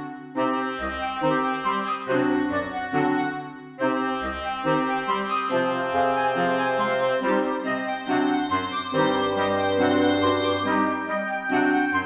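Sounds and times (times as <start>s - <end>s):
keyboard and brass instrumental music: 0.0s - 12.0s.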